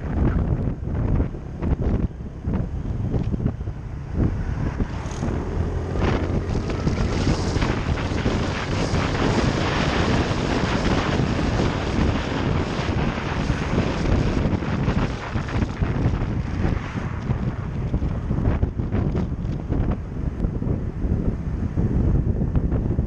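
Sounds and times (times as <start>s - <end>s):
motorcycle engine at speed: 0.0s - 23.0s
wind buffeting microphone: 0.0s - 23.0s.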